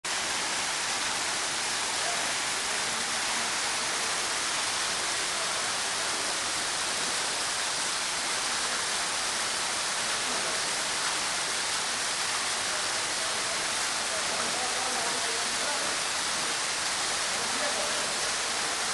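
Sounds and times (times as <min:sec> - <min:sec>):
waterfall splashing: 0:00.1 - 0:18.9.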